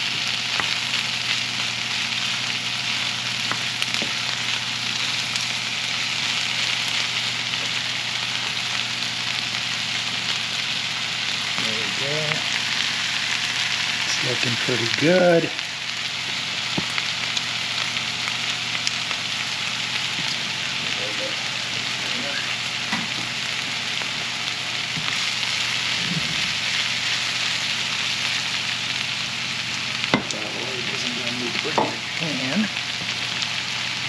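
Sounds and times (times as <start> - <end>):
food sizzling in a frying pan: 0.0 - 34.0.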